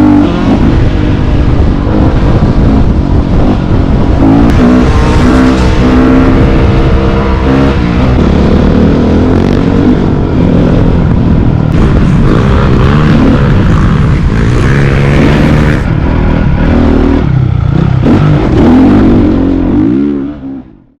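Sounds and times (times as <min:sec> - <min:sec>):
dirt bike engine revving: 0:00.0 - 0:20.7.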